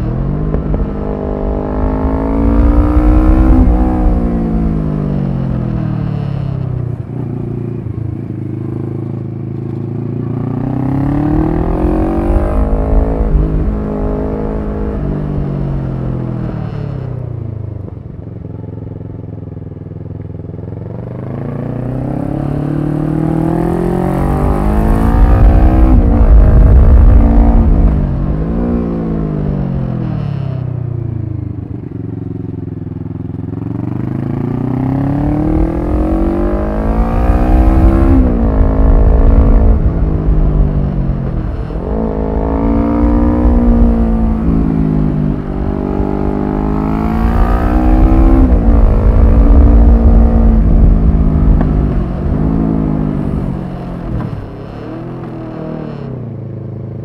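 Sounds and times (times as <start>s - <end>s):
wind rumble: 0.0s - 8.4s, 9.7s - 18.5s, 21.1s - 32.0s, 34.3s - 56.4s
motorcycle engine revving: 0.0s - 56.8s.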